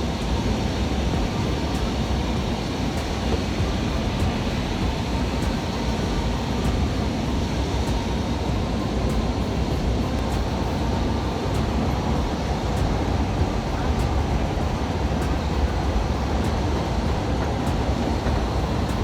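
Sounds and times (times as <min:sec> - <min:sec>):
airplane engine and propeller: 0:00.0 - 0:19.0.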